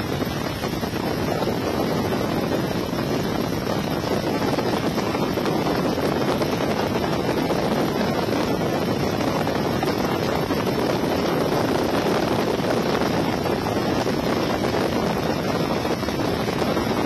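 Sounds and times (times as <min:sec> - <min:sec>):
helicopter in flight: 0:00.0 - 0:17.0
wind buffeting microphone: 0:00.0 - 0:17.0.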